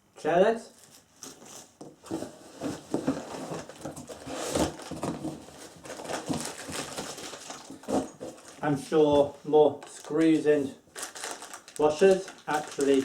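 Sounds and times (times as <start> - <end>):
packaging rustling: 0.8 - 13.0.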